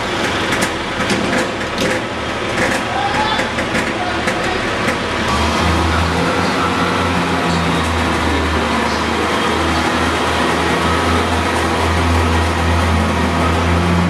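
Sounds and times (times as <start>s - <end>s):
diesel railcar droning: 0.0s - 14.0s.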